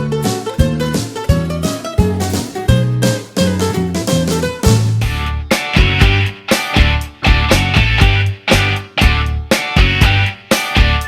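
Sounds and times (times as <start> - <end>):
upbeat guitar music with drums: 0.0 - 11.0.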